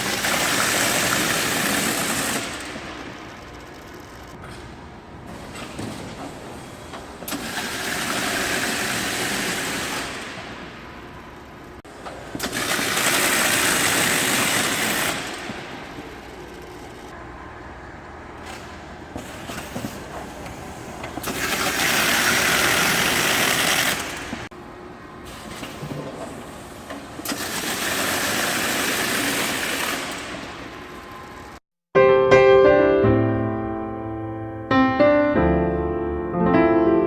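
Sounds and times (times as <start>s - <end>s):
carton taping machine running: 0.0s - 17.1s, 18.3s - 31.6s.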